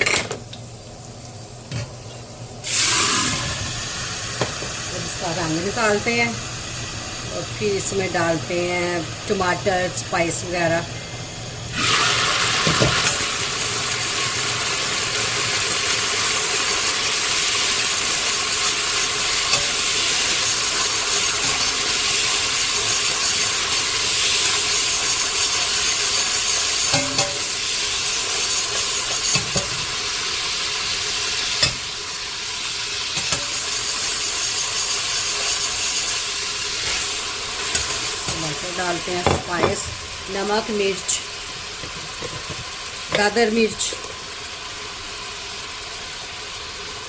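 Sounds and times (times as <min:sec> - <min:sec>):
vegetables sizzling in hot oil: 0:00.0 - 0:47.0.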